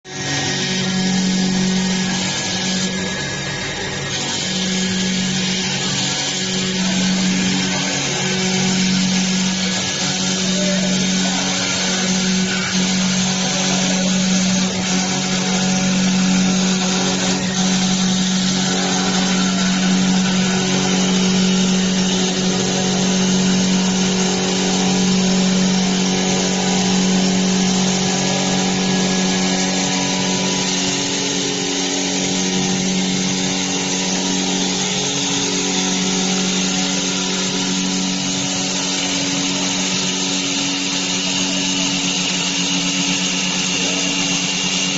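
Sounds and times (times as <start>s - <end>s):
wood lathe running: 0.0s - 44.9s.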